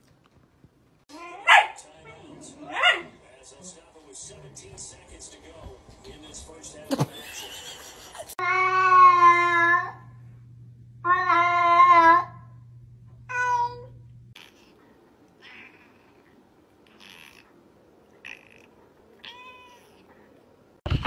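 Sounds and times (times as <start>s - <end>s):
steady low hum: 1.9s - 19.2s.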